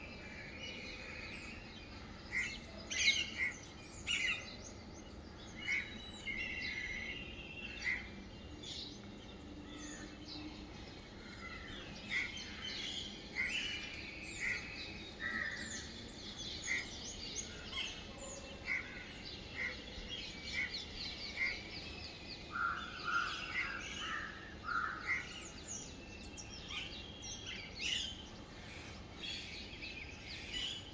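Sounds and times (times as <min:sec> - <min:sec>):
faint steady background noise: 0:00.0 - 0:30.9
small birds chirping: 0:00.0 - 0:30.9.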